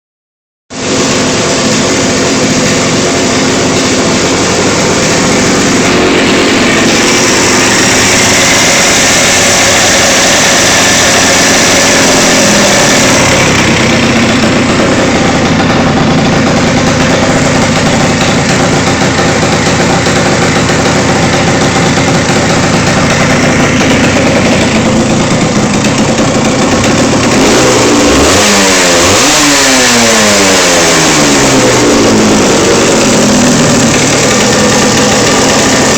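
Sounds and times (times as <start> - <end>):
two-stroke engine idling and revving: 0.7 - 35.9.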